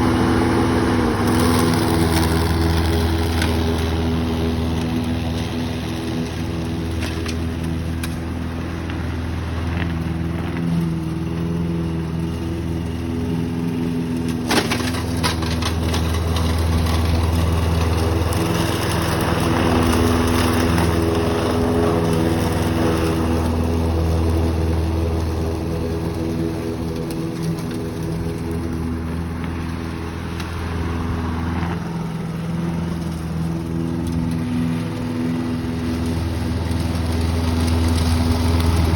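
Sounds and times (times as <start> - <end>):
lawn mower running: 0.0 - 38.9.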